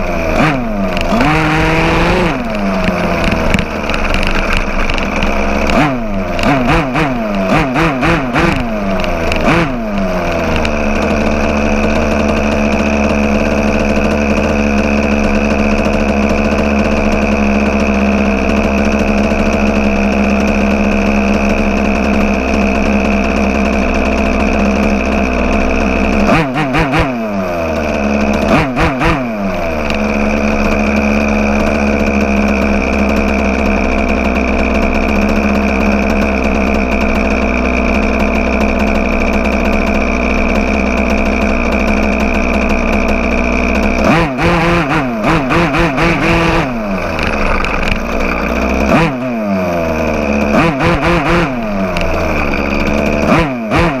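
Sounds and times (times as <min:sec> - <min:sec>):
small two-stroke engine revving: 0:00.0 - 0:54.0.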